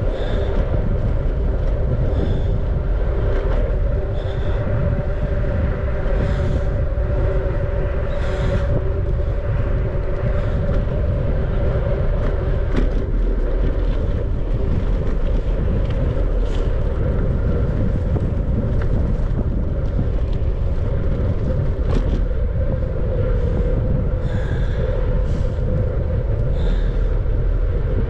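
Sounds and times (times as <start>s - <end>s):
tyre and road noise: 0.0s - 28.0s
wind rush on microphone: 0.0s - 28.0s.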